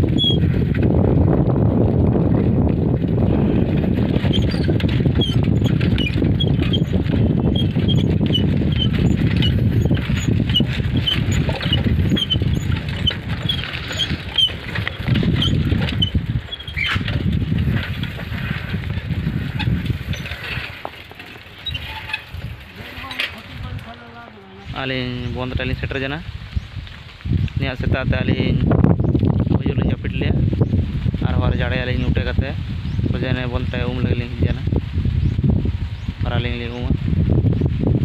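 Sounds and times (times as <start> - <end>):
bicycle rumble on concrete: 0.0 - 38.0
wind buffeting microphone: 0.0 - 38.0.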